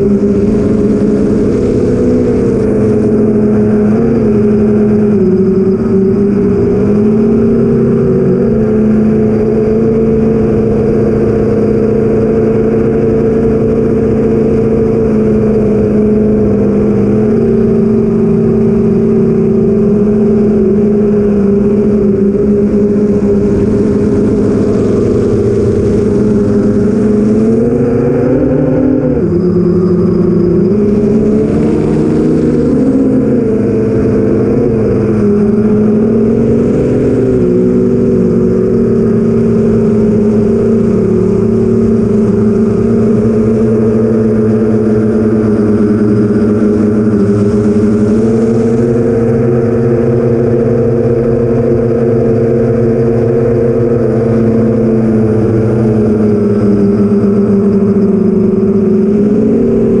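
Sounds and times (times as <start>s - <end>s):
drone motors humming: 0.0s - 60.0s.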